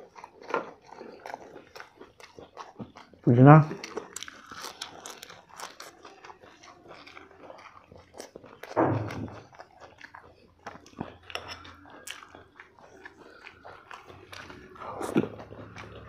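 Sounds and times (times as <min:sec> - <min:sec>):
chewing and lip smacks: 0:00.0 - 0:16.0.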